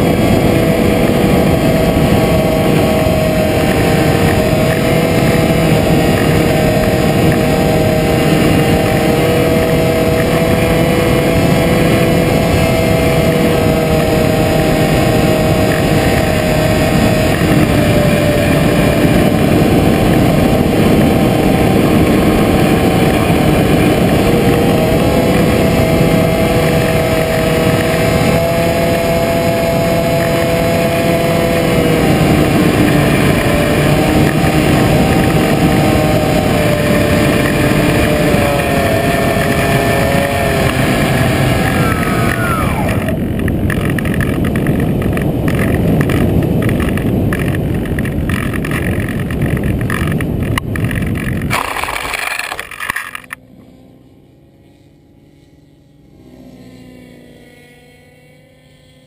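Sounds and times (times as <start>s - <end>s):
model plane motor and propeller: 0.0s - 59.0s.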